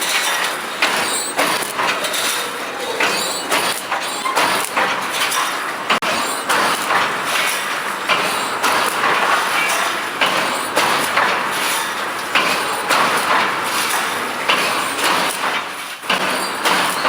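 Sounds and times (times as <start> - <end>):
wire mesh welding machine cycling: 0.0 - 17.0.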